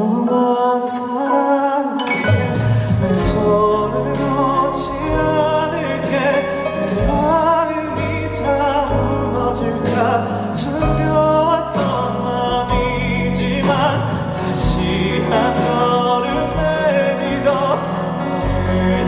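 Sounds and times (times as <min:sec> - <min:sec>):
live pop ballad by band: 0:00.0 - 0:19.0
steady bass line: 0:02.3 - 0:19.0.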